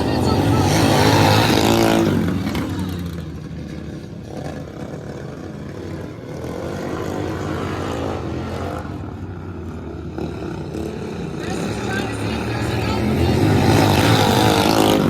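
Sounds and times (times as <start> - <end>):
racing lawnmower engines revving: 0.0 - 15.0.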